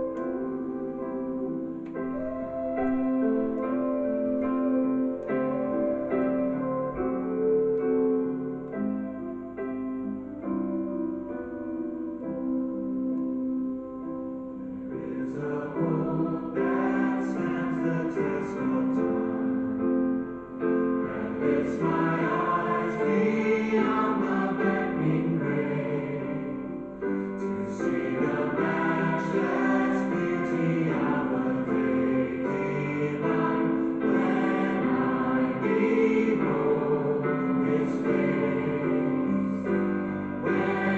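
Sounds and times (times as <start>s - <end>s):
choir singing a hymn: 0.0s - 40.9s
keyboard accompaniment: 0.0s - 40.9s.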